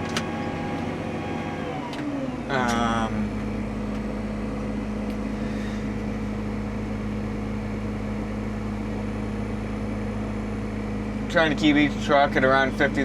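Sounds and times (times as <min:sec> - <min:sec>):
tractor engine humming: 0:00.0 - 0:13.0.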